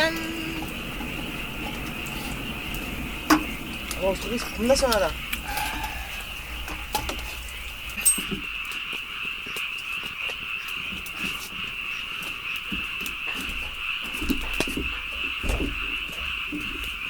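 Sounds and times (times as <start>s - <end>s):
frogs trilling: 0.0s - 17.0s.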